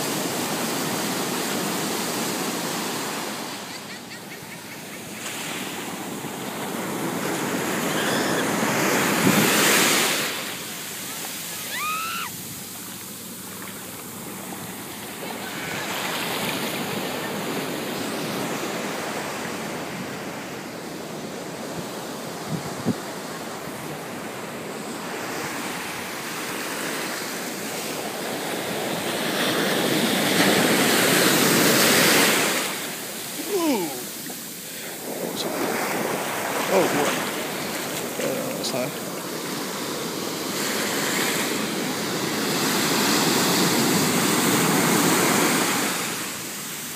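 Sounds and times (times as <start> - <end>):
ocean surf breaking on sand: 0.0 - 46.9.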